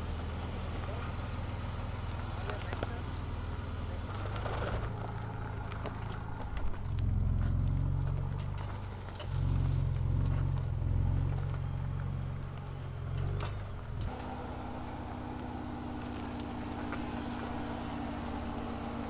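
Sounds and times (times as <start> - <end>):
truck engine under load: 0.0 - 19.0.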